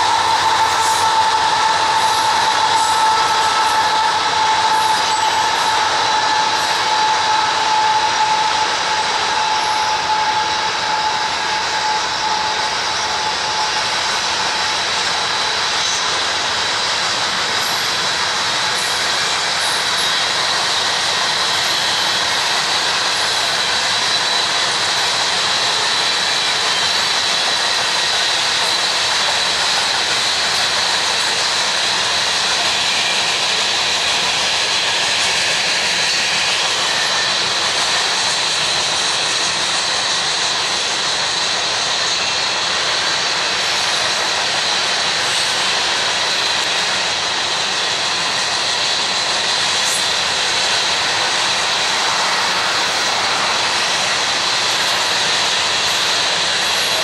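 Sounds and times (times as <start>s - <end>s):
steel wheels rolling on rails: 0.0s - 57.0s.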